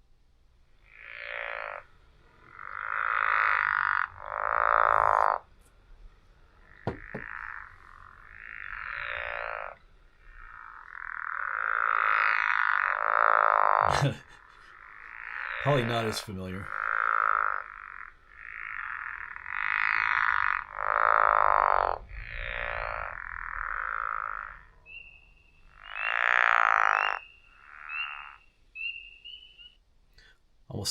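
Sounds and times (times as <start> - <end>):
frog croaking: 0.6 - 29.9.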